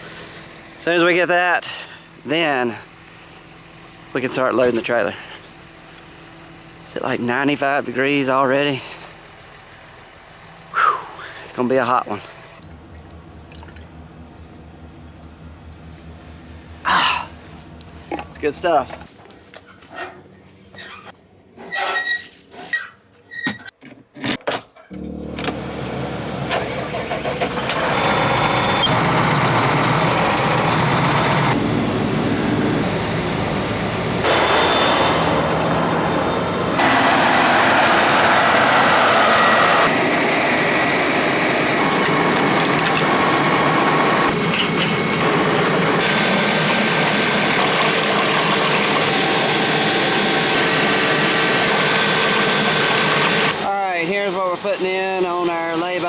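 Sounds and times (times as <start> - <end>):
engine running: 0.0 - 19.3, 25.0 - 54.2.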